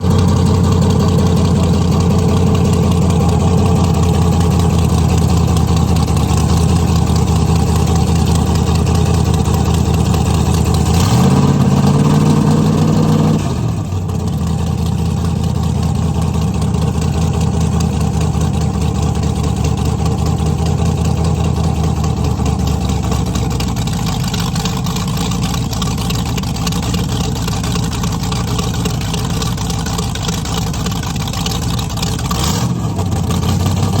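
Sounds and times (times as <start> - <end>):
boat engines idling and revving: 0.0 - 34.0.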